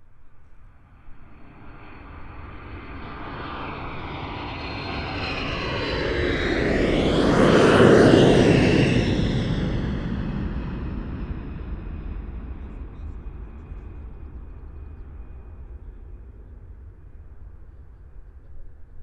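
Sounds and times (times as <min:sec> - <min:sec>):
aeroplane flying overhead: 0:00.0 - 0:19.0.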